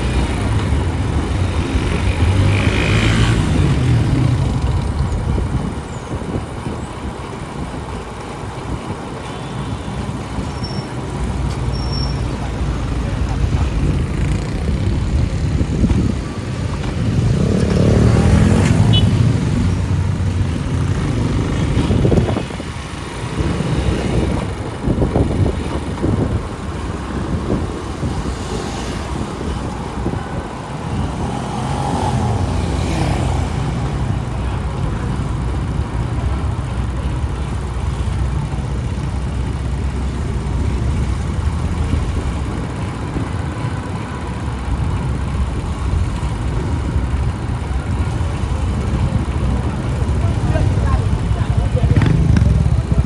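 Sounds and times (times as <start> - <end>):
motorcycle engine and road rumble: 0.0 - 53.0
vehicles passing: 0.0 - 53.0.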